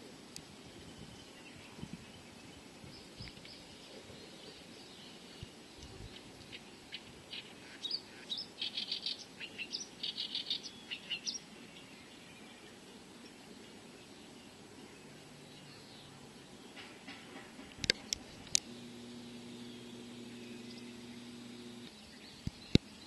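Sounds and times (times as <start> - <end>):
faint outdoor background: 0.0 - 23.0
small bird chirping: 0.7 - 17.0, 17.8 - 23.0.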